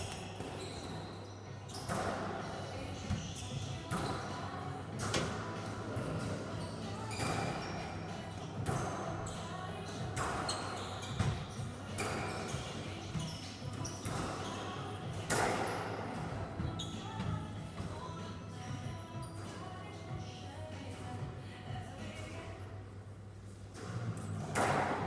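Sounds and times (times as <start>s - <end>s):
squash ball hitting rackets and walls: 0.0s - 19.5s, 23.7s - 25.0s.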